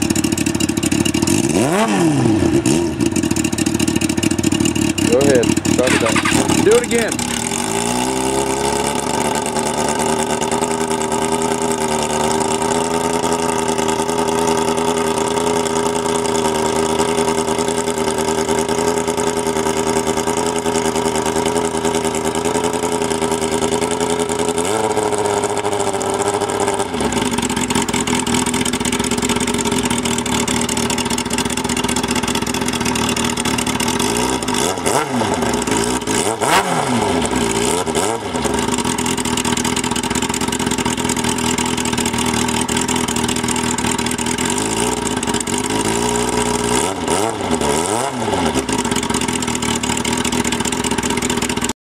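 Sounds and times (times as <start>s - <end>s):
motorcycle engine idling and revving: 0.0s - 51.8s.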